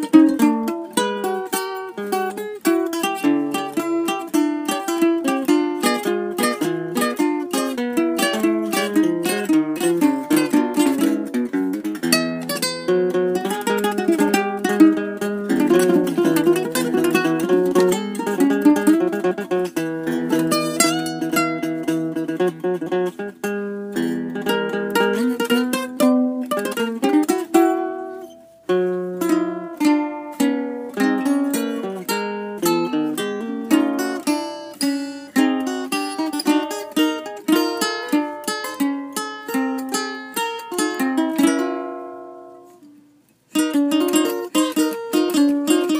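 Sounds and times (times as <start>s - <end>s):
acoustic guitar plucked and strummed: 0.0s - 45.9s
ukulele playing: 0.0s - 45.9s.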